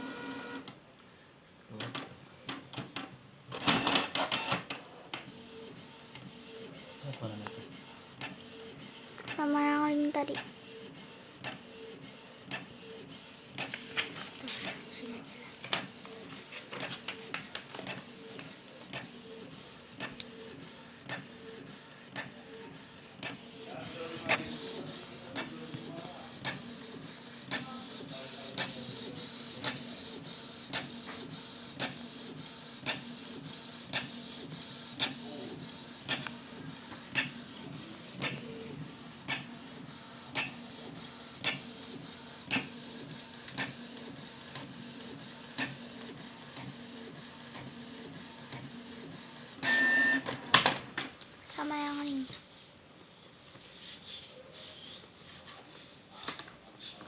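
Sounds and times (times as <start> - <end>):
printer whirring: 0.0 - 0.8, 1.8 - 51.2.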